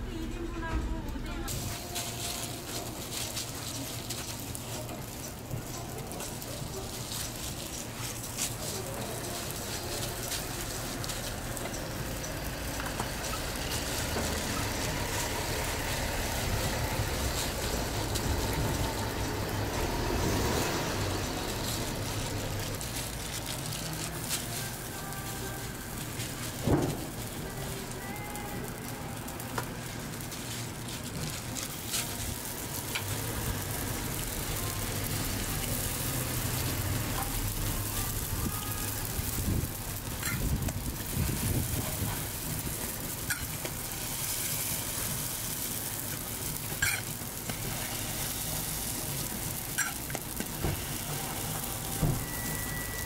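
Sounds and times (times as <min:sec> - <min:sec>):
food sizzling in oil: 0:01.5 - 0:53.0.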